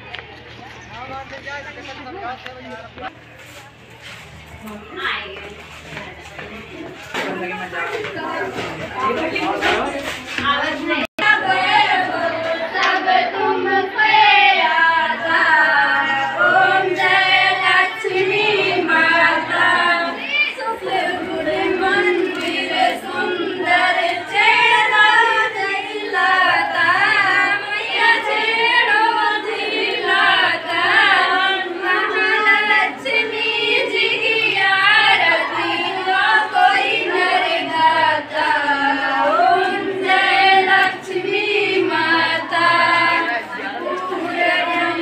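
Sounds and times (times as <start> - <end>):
children and women singing: 7.2 - 45.0.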